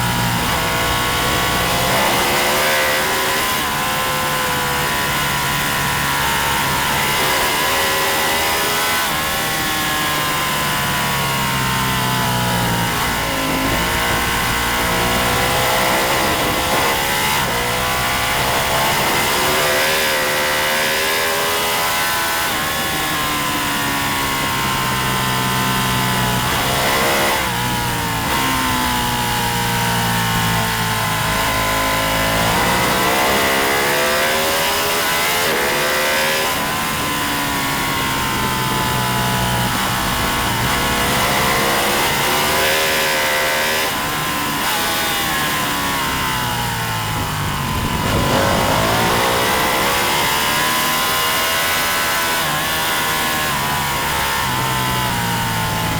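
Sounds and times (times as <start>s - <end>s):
racing motorcycle engine revving: 0.0s - 55.9s.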